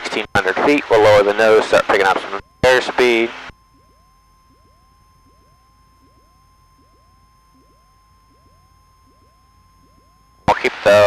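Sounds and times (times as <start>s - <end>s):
thin high electrical tone: 0.0s - 11.0s.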